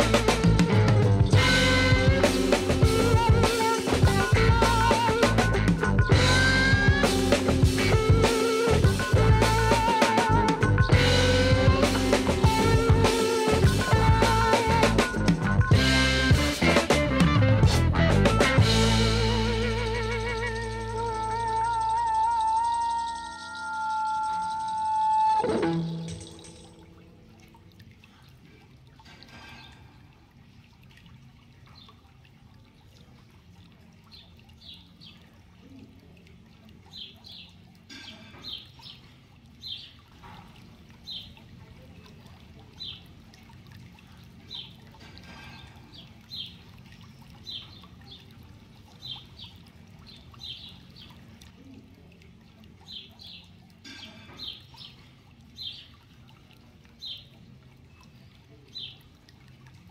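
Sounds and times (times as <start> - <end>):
faint trickle of water: 0.0 - 59.9.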